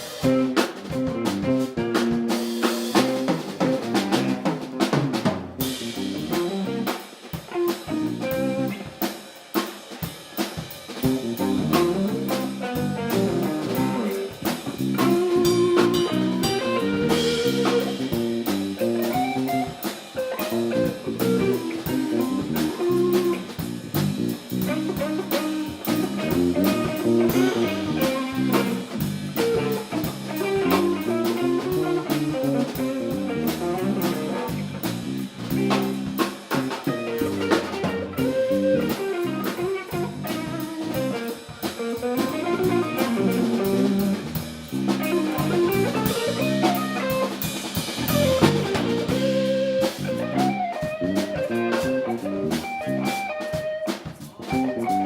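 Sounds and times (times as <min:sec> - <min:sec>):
drum kit beat: 0:00.0 - 0:55.0
electric guitar: 0:00.0 - 0:55.0
live funk band playing: 0:00.0 - 0:55.0.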